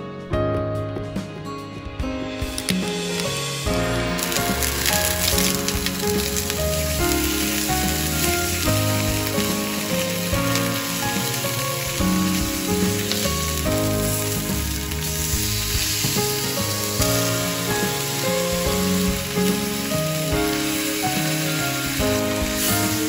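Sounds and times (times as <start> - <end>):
background music: 0.0 - 23.0
meat sizzling in hot oil: 2.5 - 23.0.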